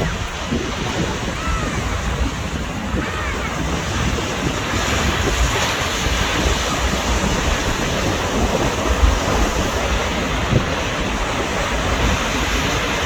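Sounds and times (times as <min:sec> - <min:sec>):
sea surf washing onto beach: 0:00.0 - 0:13.0
wind buffeting microphone: 0:00.0 - 0:13.0.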